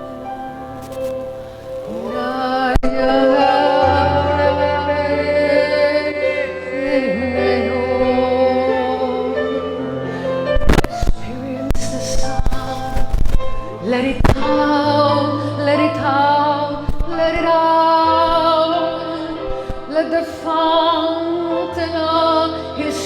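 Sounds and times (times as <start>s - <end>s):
person singing: 0.0s - 23.0s
worship music chords: 0.0s - 23.0s.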